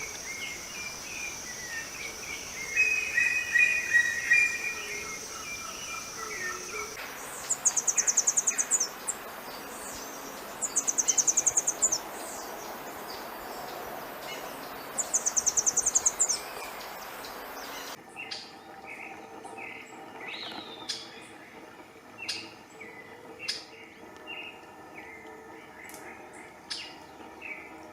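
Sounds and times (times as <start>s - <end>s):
steady hiss: 0.0s - 27.9s.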